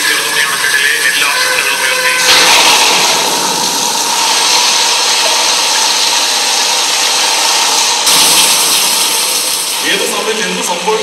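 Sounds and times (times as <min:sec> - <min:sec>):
floodwater rushing over loudspeakers: 0:00.0 - 0:11.0.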